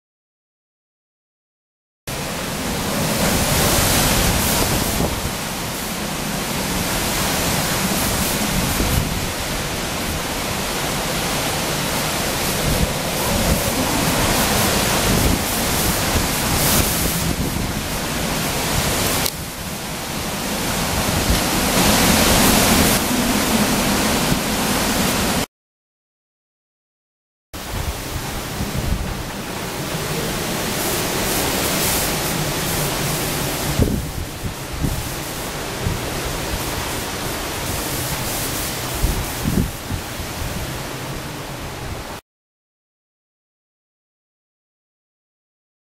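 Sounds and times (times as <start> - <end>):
wind gusting through pine trees: 2.1 - 25.5, 27.6 - 42.2.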